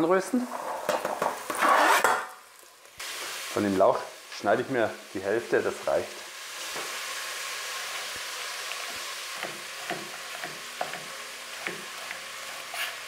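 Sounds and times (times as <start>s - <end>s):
vegetables sizzling in butter: 0.0s - 13.0s.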